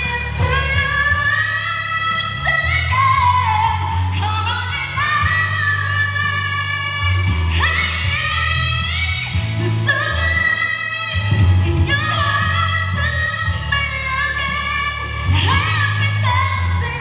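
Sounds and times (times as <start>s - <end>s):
backing track with deep bass: 0.0s - 17.0s
woman singing pop song: 0.0s - 17.0s.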